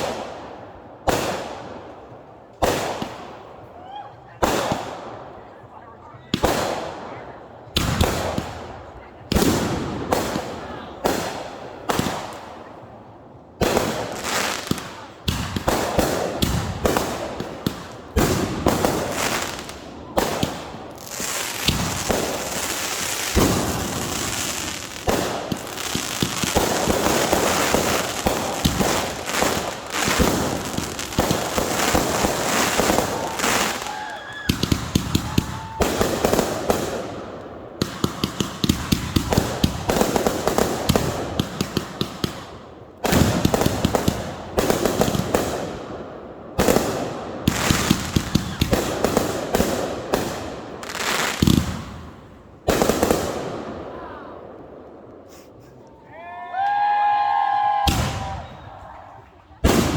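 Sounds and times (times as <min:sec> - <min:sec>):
fireworks bangs and crackling: 0:00.0 - 0:55.7, 0:57.8 - 0:59.9.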